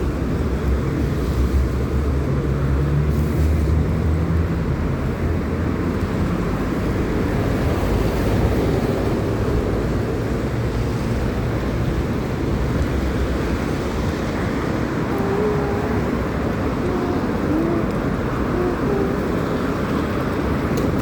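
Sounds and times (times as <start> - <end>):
road noise in traffic: 0.0 - 21.0.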